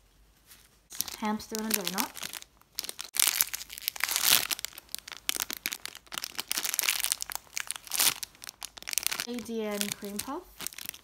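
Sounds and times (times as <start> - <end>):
plastic packaging crinkling: 0.9 - 11.0.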